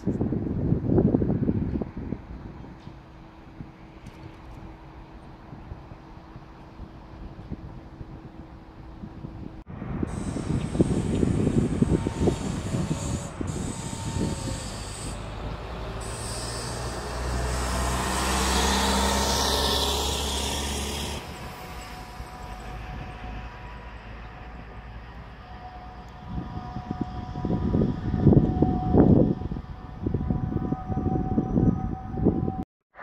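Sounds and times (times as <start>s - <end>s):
trolleybus electric hum: 0.0s - 32.6s.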